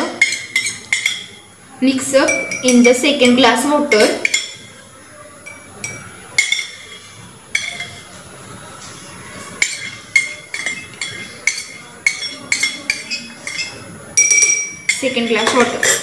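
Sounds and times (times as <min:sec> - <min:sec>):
metal spoon clinking on vessel: 0:00.0 - 0:01.4, 0:02.1 - 0:04.8, 0:05.4 - 0:08.1, 0:09.6 - 0:16.0.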